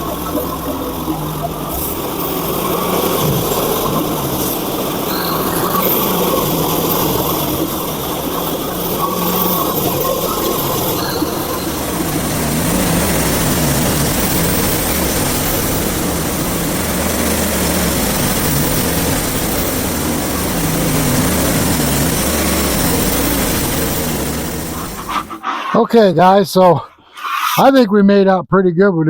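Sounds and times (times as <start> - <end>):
band sawmill cutting log: 0.0 - 26.4.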